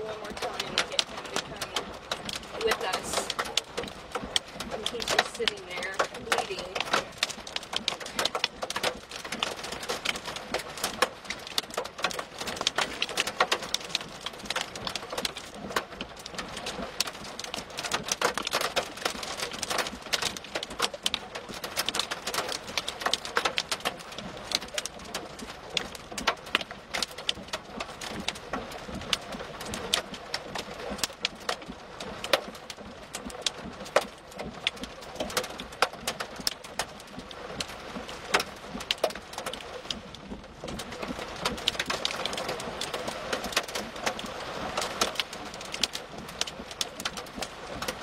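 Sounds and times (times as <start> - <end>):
heavy rain pelting down: 0.0 - 48.0.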